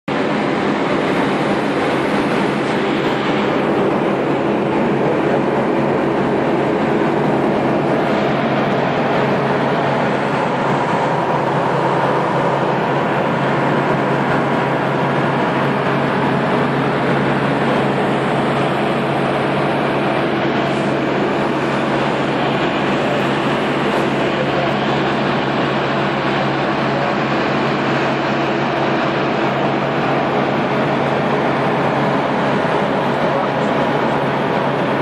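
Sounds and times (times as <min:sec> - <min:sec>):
propeller aircraft engine hum: 0:00.1 - 0:35.0
rushing air noise: 0:00.1 - 0:35.0.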